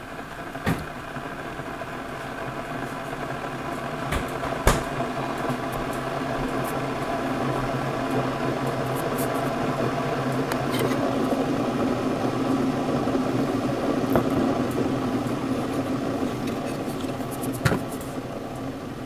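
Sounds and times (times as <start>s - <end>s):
coffee maker whirring hum: 0.0s - 19.0s.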